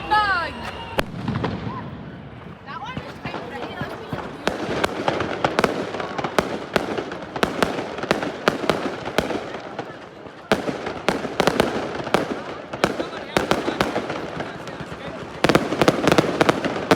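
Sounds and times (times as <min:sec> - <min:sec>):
crowd murmur: 0:00.0 - 0:16.9
fireworks bangs and cracks: 0:00.1 - 0:16.9.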